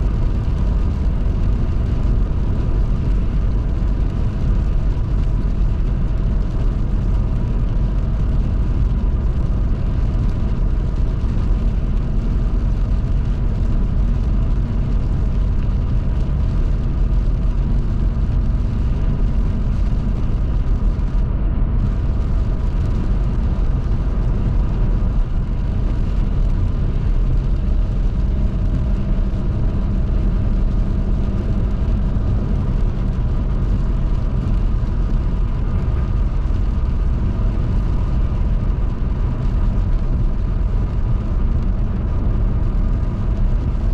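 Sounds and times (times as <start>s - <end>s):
car engine and tyres on wet road: 0.0s - 43.9s.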